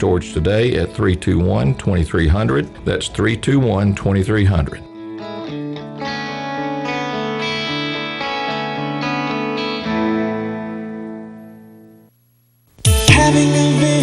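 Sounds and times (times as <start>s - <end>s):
guitar chords: 0.0s - 14.0s.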